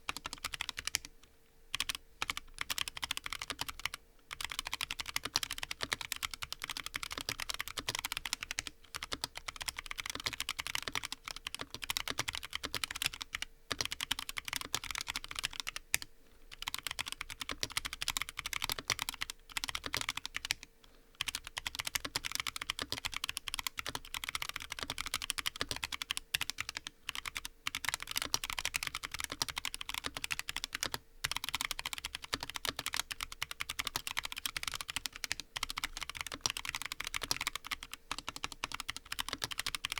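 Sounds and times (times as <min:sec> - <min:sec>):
fast mechanical keyboard typing: 0:00.1 - 0:01.1, 0:01.7 - 0:39.9.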